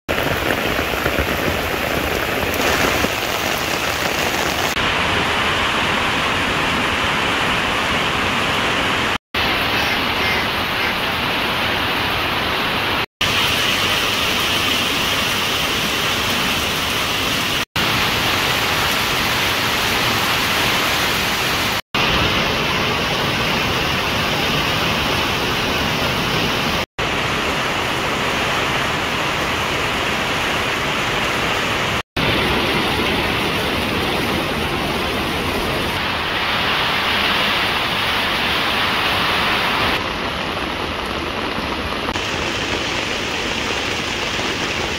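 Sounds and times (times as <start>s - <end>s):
heavy rain on foliage: 0.1s - 44.9s.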